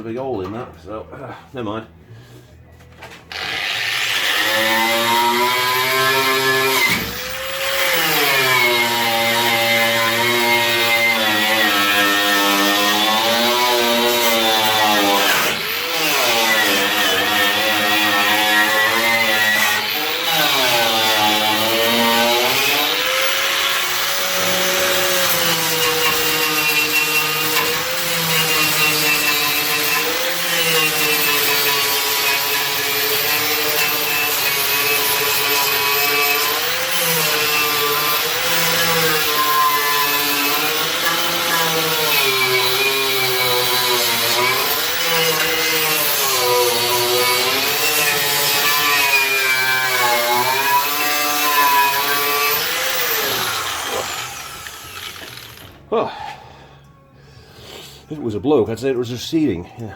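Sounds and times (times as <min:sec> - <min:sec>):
power tool cutting steel: 0:03.3 - 0:55.9.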